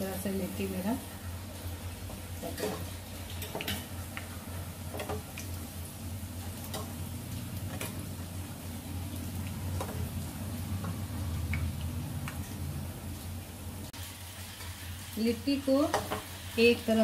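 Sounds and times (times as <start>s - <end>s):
deep-frying sizzle: 0.0s - 17.0s.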